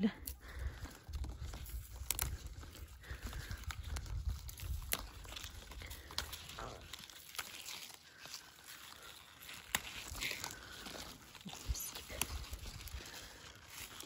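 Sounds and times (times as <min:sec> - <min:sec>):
plants rustling: 0:00.0 - 0:14.0
onion leaves snapping: 0:00.2 - 0:14.0.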